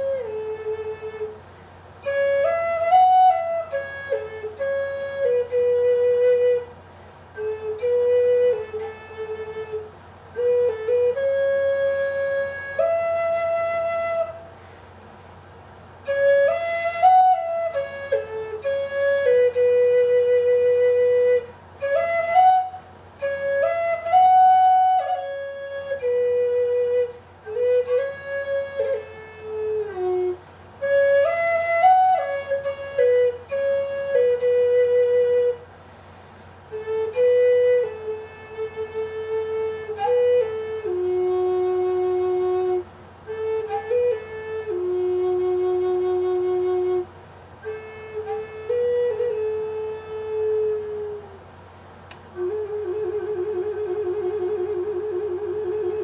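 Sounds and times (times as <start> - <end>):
flute playing slow melody: 0.0 - 56.0.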